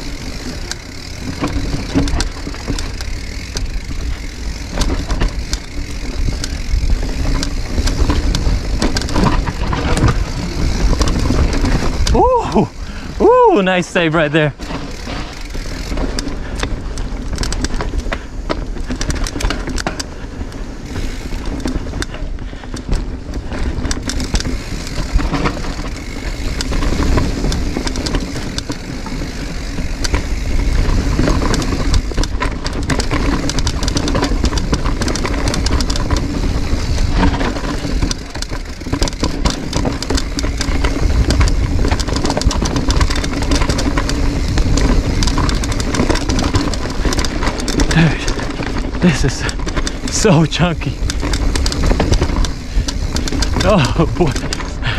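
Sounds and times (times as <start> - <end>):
chain and frame rattling: 0.0 - 20.2, 20.8 - 54.9
bike tyres rumbling over rock: 0.0 - 54.9.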